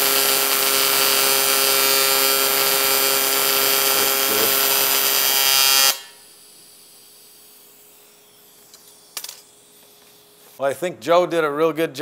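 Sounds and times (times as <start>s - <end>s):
welding arc electrical buzz: 0.0s - 10.6s.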